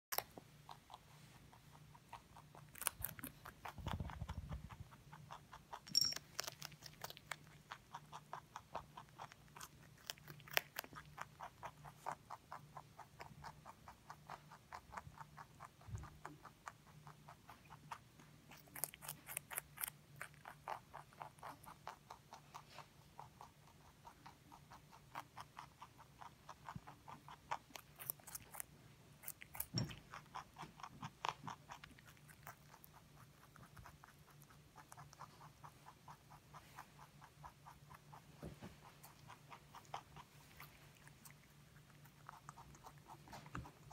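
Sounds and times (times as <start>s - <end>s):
rabbit crunching vegetables: 0.1s - 43.9s.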